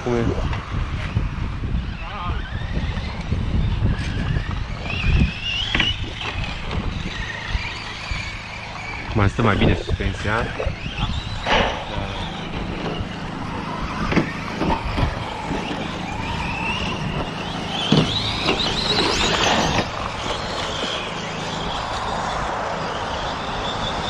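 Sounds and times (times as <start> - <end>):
rc truck motors whining: 0.0 - 24.0.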